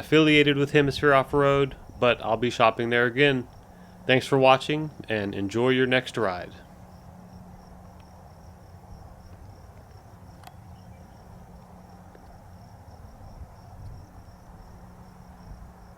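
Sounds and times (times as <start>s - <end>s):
insects chirping: 0.0s - 15.9s
low steady hum: 0.0s - 15.9s.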